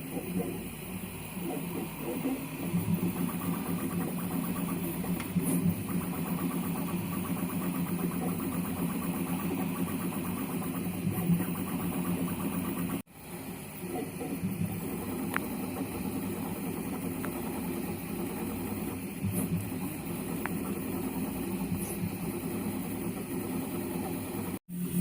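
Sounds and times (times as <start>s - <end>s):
printer stepper motors whirring: 0.0s - 25.0s.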